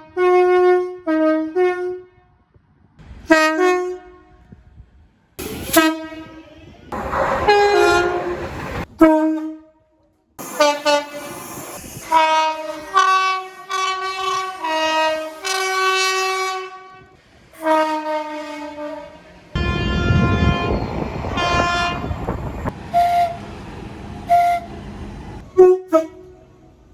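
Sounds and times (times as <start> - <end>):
train horn blasts: 0.0 - 2.4, 3.3 - 4.6, 5.7 - 11.4, 12.0 - 23.5, 24.2 - 24.8, 25.4 - 26.6
two-tone train horn: 0.0 - 2.4, 3.3 - 4.6, 5.7 - 11.4, 12.0 - 22.3, 22.9 - 23.5, 24.2 - 24.8, 25.4 - 26.7
train rumbling on track: 3.0 - 9.2, 10.4 - 26.9.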